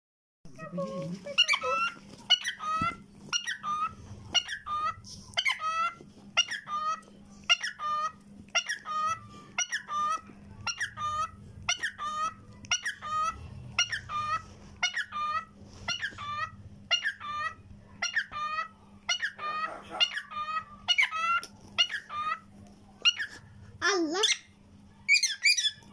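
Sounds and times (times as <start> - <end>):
cockatiel whistling song: 0.6 - 22.4, 23.0 - 23.4, 24.2 - 25.9.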